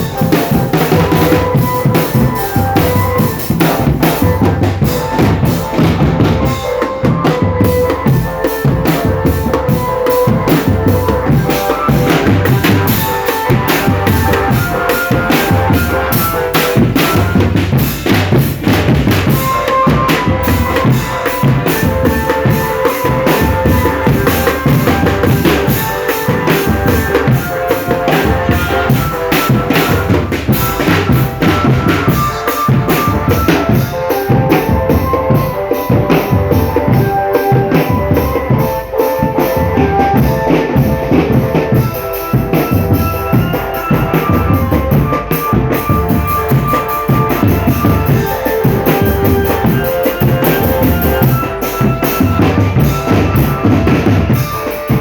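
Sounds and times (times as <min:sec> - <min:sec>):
held melody notes: 0:00.0 - 0:55.0
snare and bass drums beating: 0:00.0 - 0:55.0.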